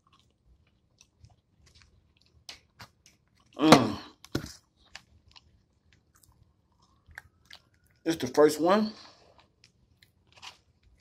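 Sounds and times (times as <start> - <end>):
man chewing: 0.0 - 8.0, 9.0 - 11.0.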